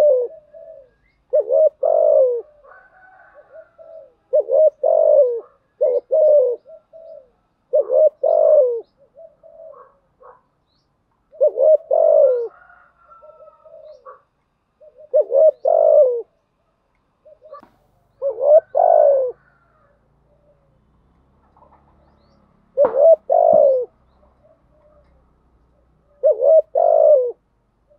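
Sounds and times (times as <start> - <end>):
dove cooing: 0.0 - 10.5, 11.2 - 16.4, 17.2 - 27.9.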